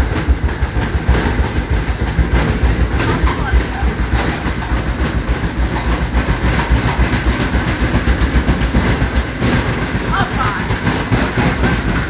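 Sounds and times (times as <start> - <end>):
washing machine drum rumbling clatter: 0.0 - 12.0.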